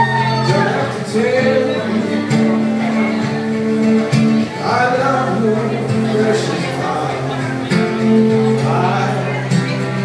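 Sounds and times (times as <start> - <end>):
man singing: 0.0 - 3.0, 4.3 - 10.0
acoustic guitar strumming: 0.0 - 10.0.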